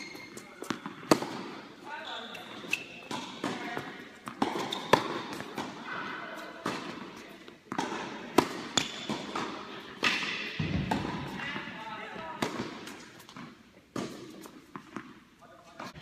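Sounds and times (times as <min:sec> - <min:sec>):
tennis balls bouncing on hard court: 0:00.0 - 0:01.6, 0:02.4 - 0:06.0, 0:06.6 - 0:11.5, 0:12.2 - 0:15.2
tennis balls struck by rackets: 0:00.0 - 0:01.7, 0:02.7 - 0:11.5, 0:12.3 - 0:15.2.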